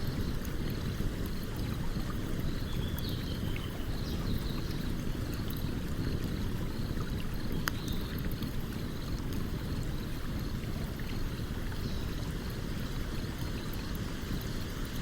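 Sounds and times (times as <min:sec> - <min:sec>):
campfire crackling and popping: 0:00.0 - 0:15.0
stream running: 0:00.0 - 0:15.0.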